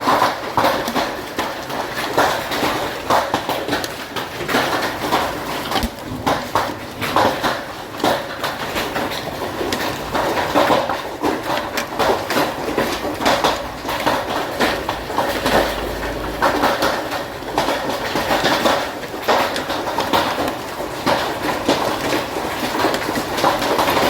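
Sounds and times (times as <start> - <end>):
hailstones pelting hard surfaces: 0.0 - 24.0.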